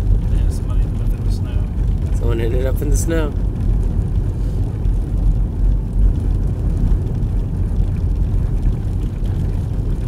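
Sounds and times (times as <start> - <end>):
car tyres and engine rumbling: 0.0 - 10.0.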